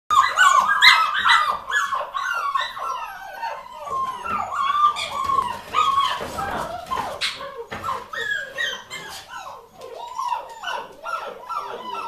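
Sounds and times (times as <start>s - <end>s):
puppies whimpering and squealing: 0.1s - 12.0s.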